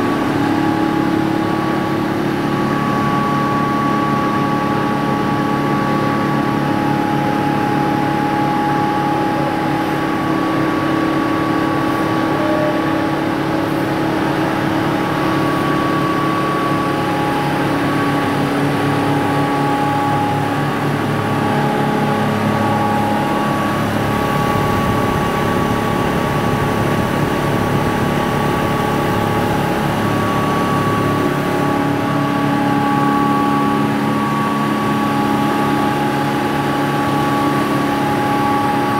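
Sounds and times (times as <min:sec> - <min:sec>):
grinding machine drone: 0:00.0 - 0:38.9
whining tones: 0:00.2 - 0:38.9.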